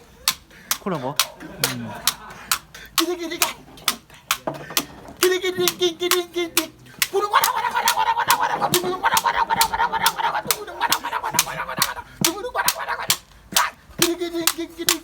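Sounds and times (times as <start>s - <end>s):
voices singing: 0.0s - 15.0s
hand-struck percussion slaps: 0.2s - 15.0s.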